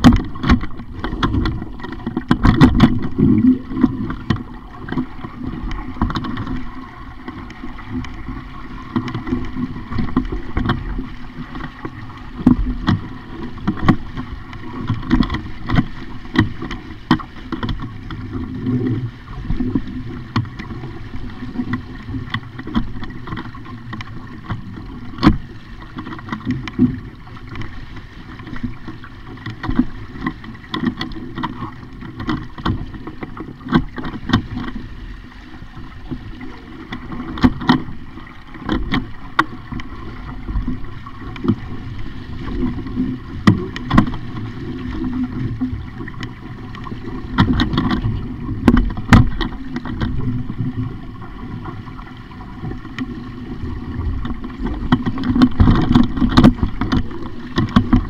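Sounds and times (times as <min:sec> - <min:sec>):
boat knocking and clattering: 0:00.0 - 0:58.0
water splashing against boat hull: 0:00.0 - 0:58.0.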